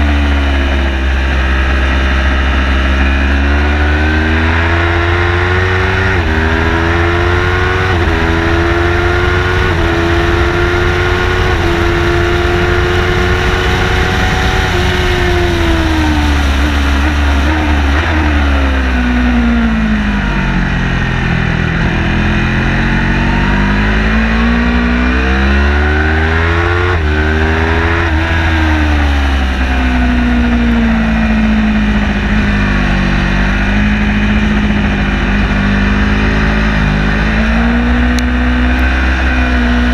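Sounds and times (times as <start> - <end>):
race car engine revving: 0.0 - 39.9
road and wind drone: 0.0 - 39.9.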